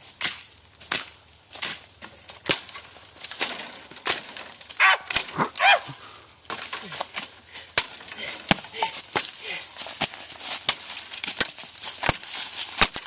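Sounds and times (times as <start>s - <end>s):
branches brushing and cracking: 0.0s - 13.0s
leaves and twigs crunching underfoot: 0.0s - 13.0s.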